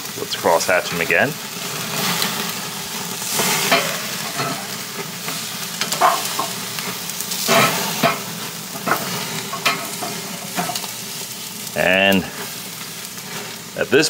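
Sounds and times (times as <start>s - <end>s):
sizzle bursts from tongs moving steaks: 0.0s - 14.0s
steaks sizzling over flames: 0.0s - 14.0s.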